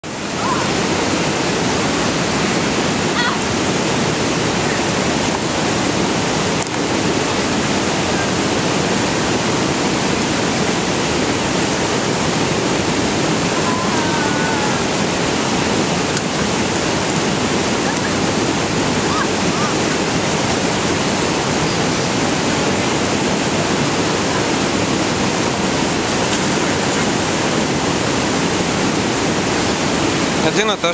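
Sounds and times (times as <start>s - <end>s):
stream water rushing over rocks: 0.0s - 30.9s.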